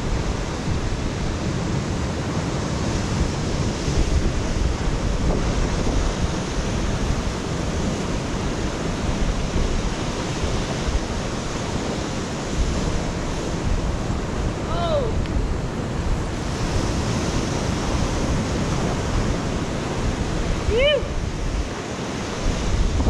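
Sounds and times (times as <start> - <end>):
ocean surf washing ashore: 0.0 - 23.0
wind buffeting microphone: 0.0 - 23.0.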